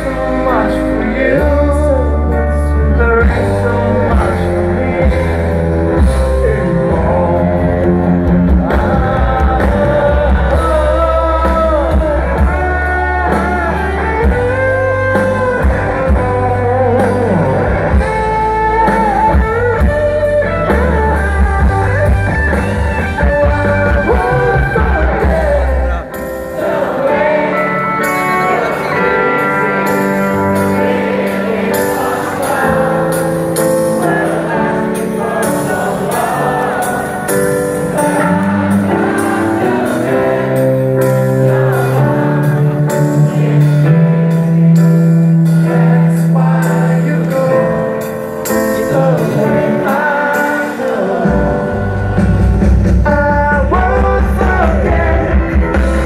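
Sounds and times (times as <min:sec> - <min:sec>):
person singing: 0:00.0 - 0:21.9, 0:23.2 - 0:56.0
live pop-rock band playing: 0:00.0 - 0:56.0.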